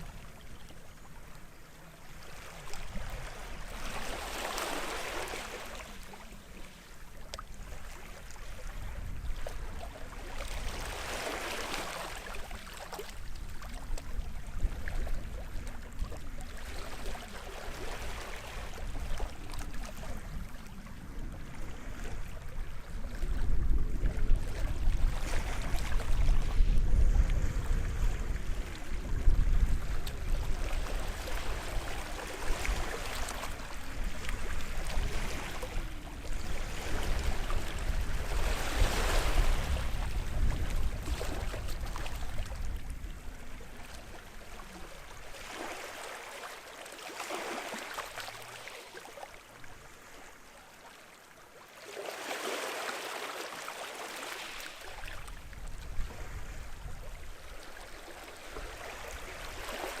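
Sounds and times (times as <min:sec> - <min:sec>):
small waves washing on beach: 0:00.0 - 1:00.0.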